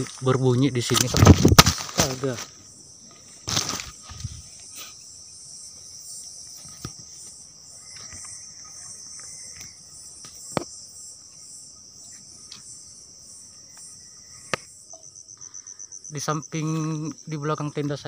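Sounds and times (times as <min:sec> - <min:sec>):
night insects chorus: 0:00.0 - 0:18.0.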